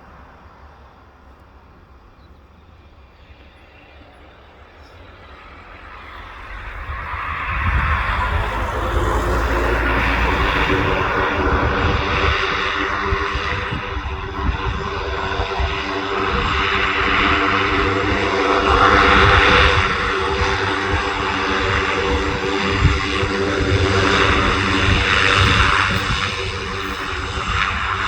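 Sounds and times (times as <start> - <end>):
aircraft engines running: 0.0 - 28.0.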